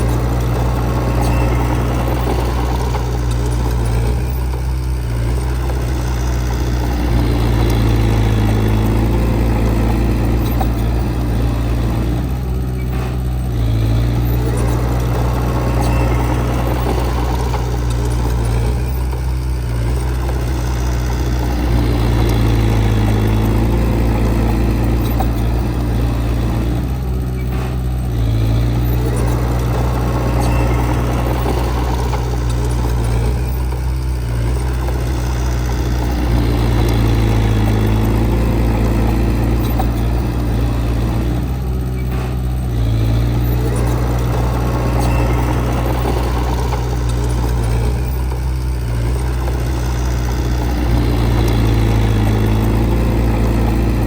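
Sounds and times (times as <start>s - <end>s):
diesel earthmover engine running: 0.0s - 54.0s.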